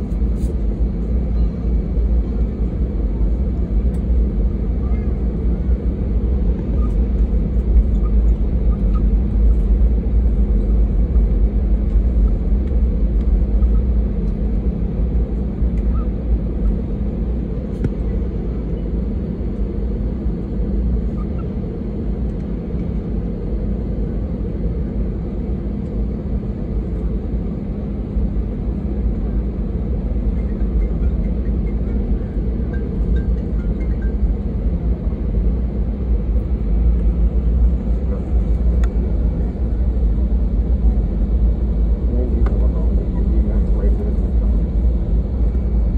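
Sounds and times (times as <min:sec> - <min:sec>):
aircraft engines low rumble: 0:00.0 - 0:45.9.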